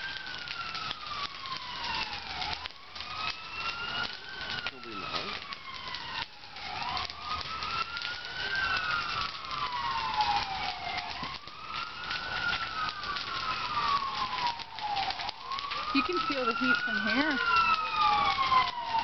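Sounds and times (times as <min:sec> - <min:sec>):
emergency sirens wailing: 0:00.0 - 0:19.0
fire crackling: 0:00.0 - 0:19.0.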